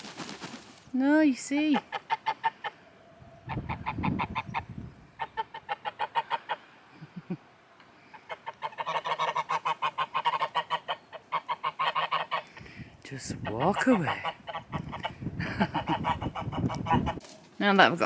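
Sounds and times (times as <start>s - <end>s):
geese honking: 1.5s - 6.9s, 7.7s - 12.6s, 13.2s - 18.0s.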